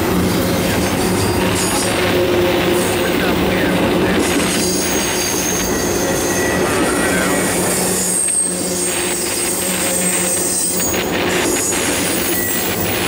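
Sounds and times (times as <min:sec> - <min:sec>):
freight train wheels rumbling: 0:00.0 - 0:13.0
high-pitched wheel squeal: 0:00.0 - 0:13.0.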